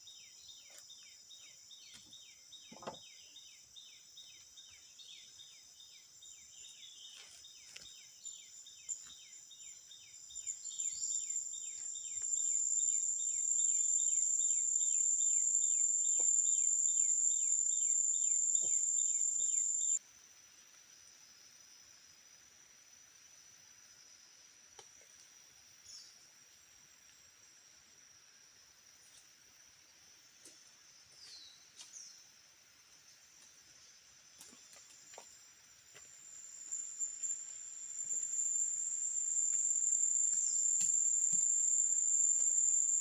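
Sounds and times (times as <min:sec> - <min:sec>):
insect rhythmic chirping: 0:00.0 - 0:43.0.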